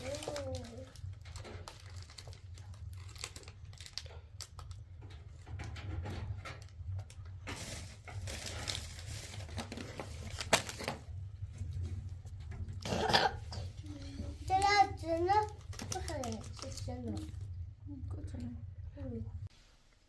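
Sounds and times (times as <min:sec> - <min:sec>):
crinkling and rustling: 0:00.0 - 0:17.6.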